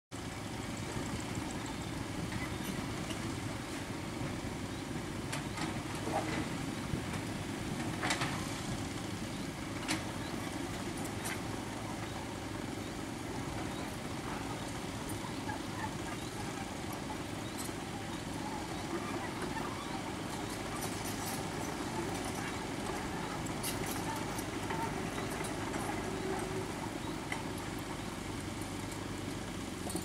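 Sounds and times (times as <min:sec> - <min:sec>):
diesel engine running: 0:00.2 - 0:30.0.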